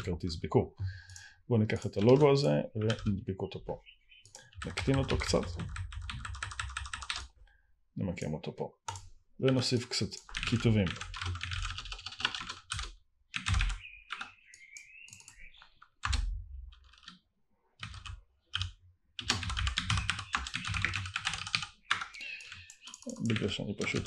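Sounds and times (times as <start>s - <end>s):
computer keyboard typing: 1.0s - 3.1s, 4.2s - 7.3s, 8.9s - 17.2s, 17.8s - 24.0s.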